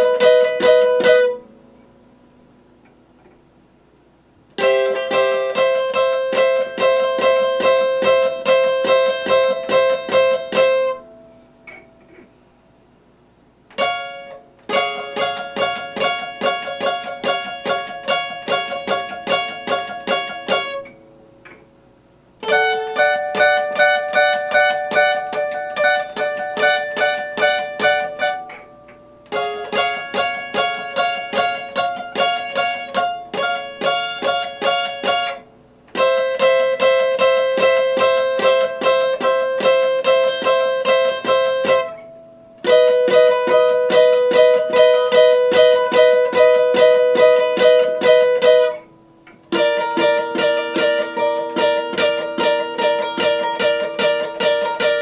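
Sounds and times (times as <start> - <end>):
acoustic guitar fingerpicked: 0.0 - 2.0, 4.6 - 12.4, 13.7 - 21.7, 22.4 - 55.0.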